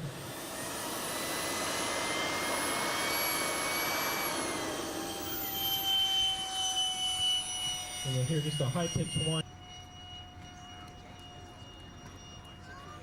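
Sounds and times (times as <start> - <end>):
model jet high-pitched whine: 0.0 - 13.0.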